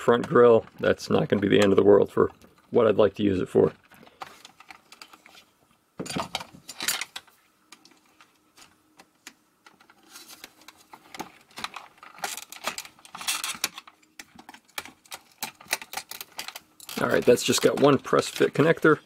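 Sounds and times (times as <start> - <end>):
plastic parts clicking and rattling: 3.6 - 19.0.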